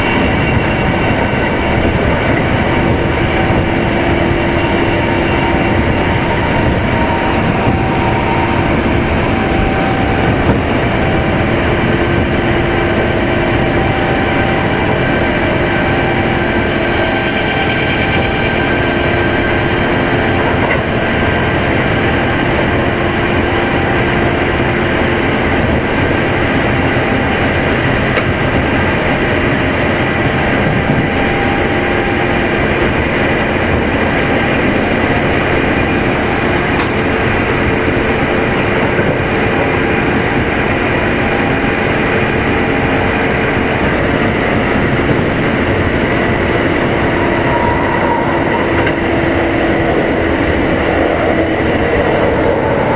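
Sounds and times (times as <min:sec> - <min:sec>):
train motor hum: 0:00.0 - 0:52.9
wheels rumbling on rails: 0:00.0 - 0:52.9.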